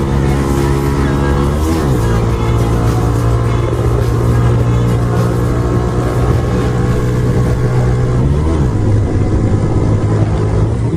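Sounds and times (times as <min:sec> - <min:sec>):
motorcycle engine droning: 0:00.0 - 0:10.9.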